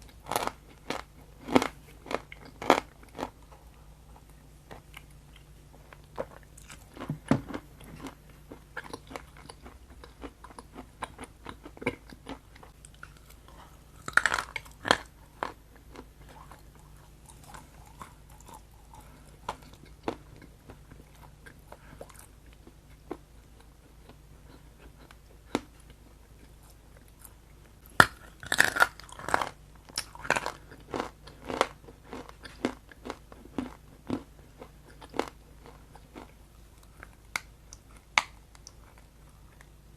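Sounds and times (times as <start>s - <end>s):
person chewing crunchy food: 0.0s - 39.8s.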